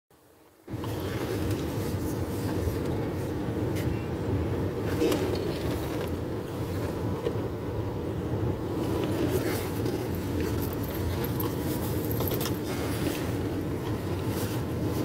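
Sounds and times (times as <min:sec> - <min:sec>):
road and wind noise: 0:00.7 - 0:15.0.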